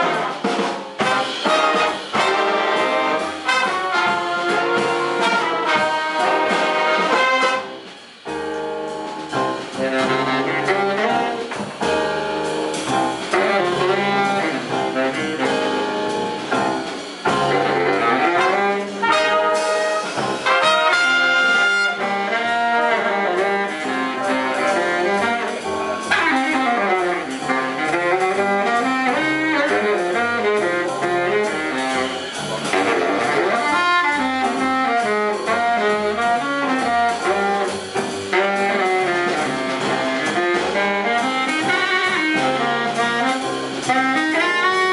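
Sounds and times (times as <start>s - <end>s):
big band playing jazz: 0.0s - 44.9s.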